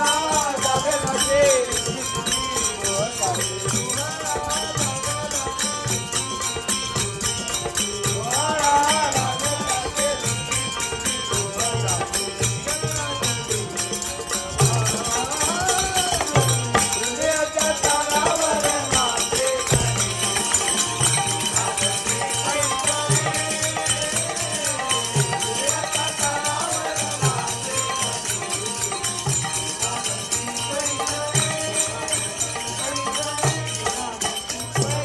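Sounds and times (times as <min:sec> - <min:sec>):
harmonium holding tones: 0:00.0 - 0:35.0
jingling metallic percussion: 0:00.0 - 0:35.0
person singing: 0:00.0 - 0:35.0.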